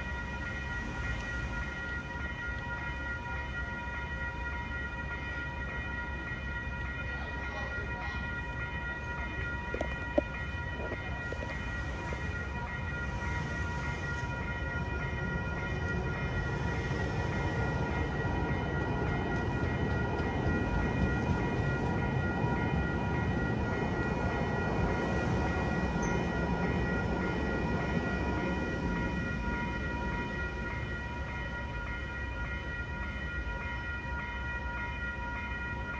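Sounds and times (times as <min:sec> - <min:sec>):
electronic crossing bell ringing: 0:00.0 - 0:35.9.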